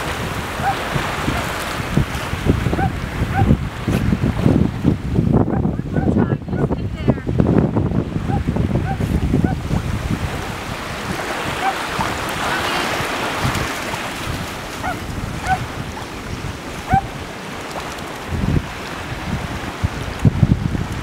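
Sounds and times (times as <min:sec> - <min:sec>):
small waves lapping at shore: 0:00.0 - 0:05.1, 0:05.8 - 0:21.0
wind buffeting microphone: 0:00.0 - 0:21.0.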